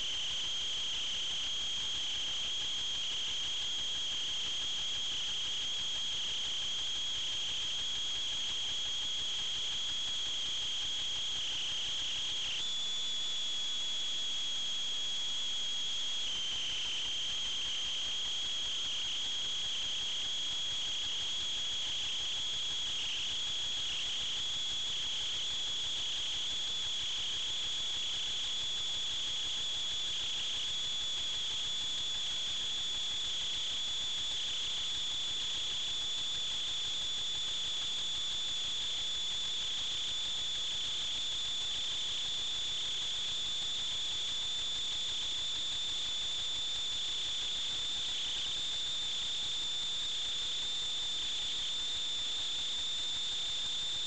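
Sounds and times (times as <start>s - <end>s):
model aircraft motor whine: 0.0s - 54.0s.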